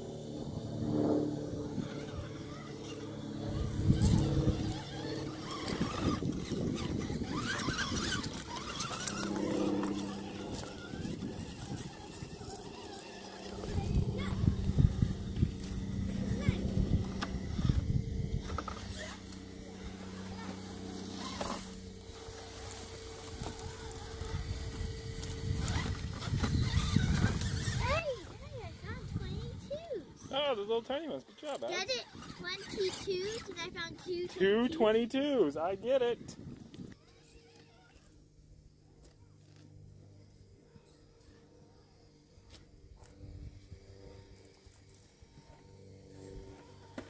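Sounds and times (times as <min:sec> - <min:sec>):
electric motor whining: 0:00.0 - 0:47.0.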